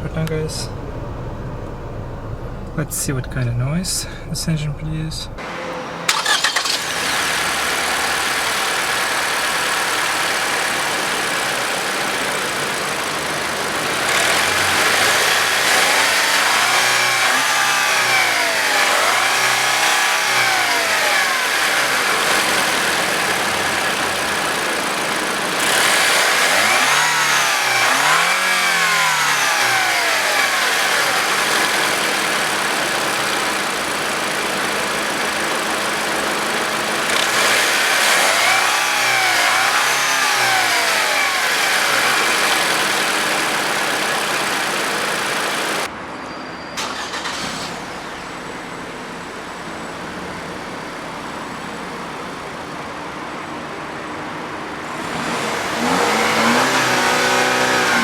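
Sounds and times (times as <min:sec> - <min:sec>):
car engine idling and revving: 0:00.0 - 0:46.0, 0:46.8 - 0:58.0.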